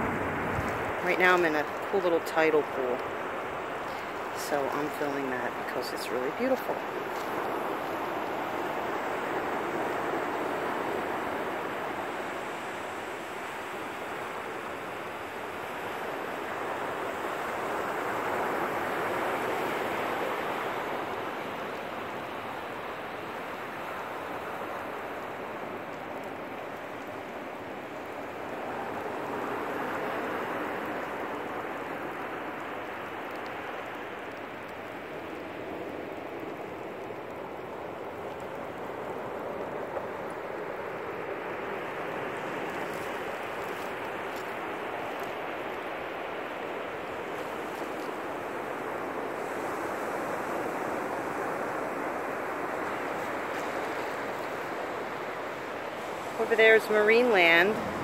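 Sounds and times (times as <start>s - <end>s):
ocean surf rushing onto beach: 0.0s - 58.0s.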